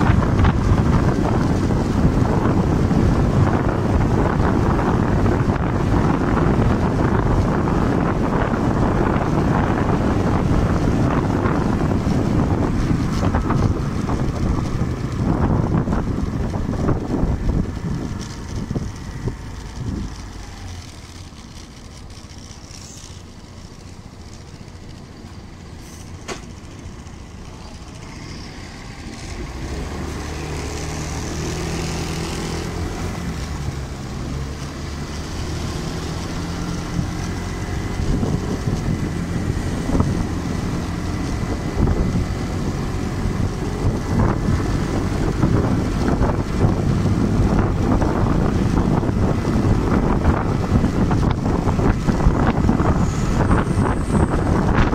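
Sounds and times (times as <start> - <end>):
wind rushing on microphone: 0.0 - 22.2, 26.8 - 54.9
motor scooter engine: 0.0 - 54.9.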